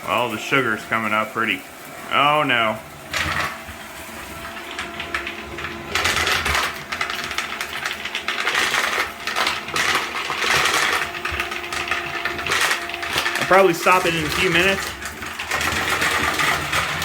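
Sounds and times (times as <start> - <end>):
debris rattling through brushes: 0.0 - 17.0
robot vacuum motor hum: 0.1 - 17.0.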